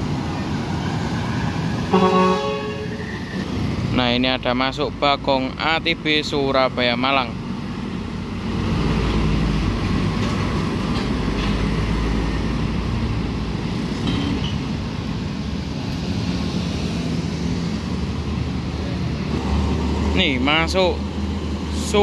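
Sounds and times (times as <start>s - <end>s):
bus diesel engine passing: 0.0s - 22.0s.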